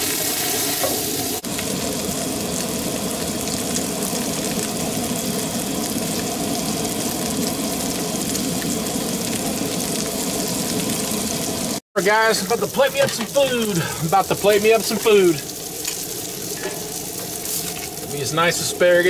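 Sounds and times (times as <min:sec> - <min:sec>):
patties sizzling in a skillet: 0:00.0 - 0:19.0
water and butter boiling off: 0:00.0 - 0:19.0.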